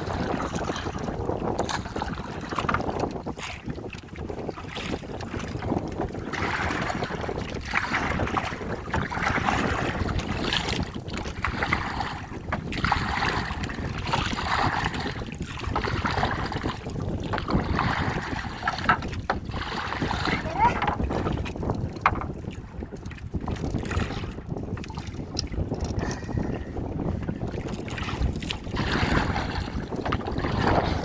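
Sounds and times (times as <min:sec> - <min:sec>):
water splashing against boat: 0:00.0 - 0:31.0
wind rumble on microphone: 0:00.0 - 0:31.0.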